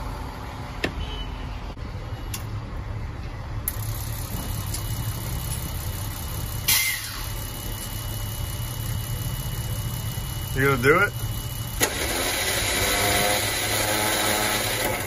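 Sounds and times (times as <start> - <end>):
truck engine idling: 1.7 - 15.0.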